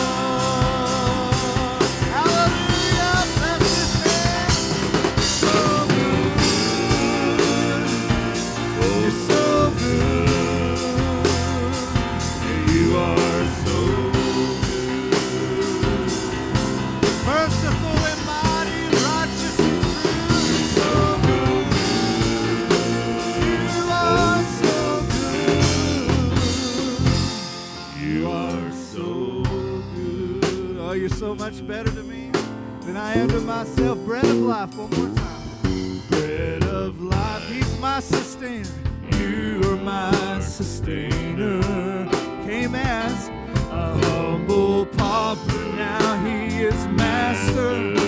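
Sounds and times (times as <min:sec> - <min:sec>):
live band playing: 0:00.0 - 0:48.0
wordless singing: 0:00.0 - 0:48.0.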